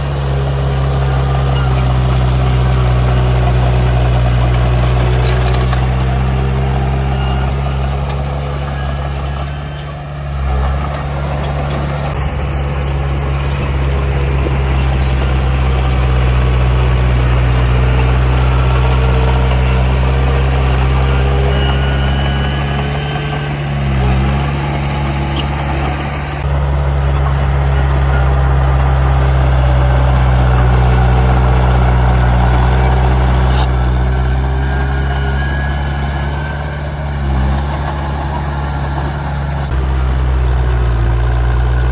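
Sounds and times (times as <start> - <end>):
heavy diesel machinery engine drone: 0.0 - 41.9.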